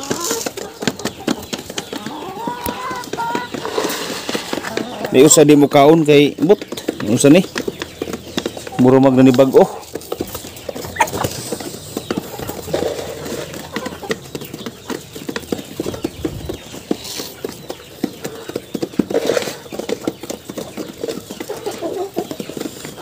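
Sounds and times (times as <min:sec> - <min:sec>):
hens pecking beak taps: 0:00.0 - 0:23.0.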